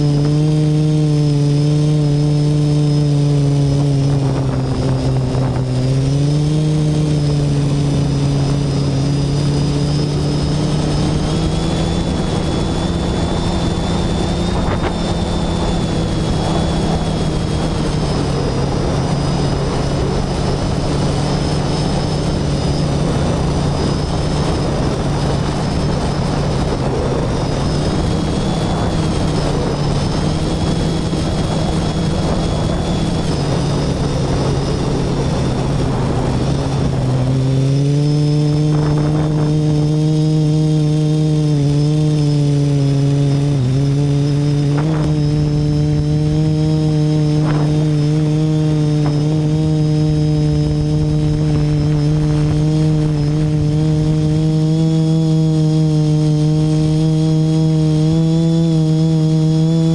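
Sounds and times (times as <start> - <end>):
drone propeller hum: 0.0 - 59.9
rushing wind noise: 0.0 - 59.9.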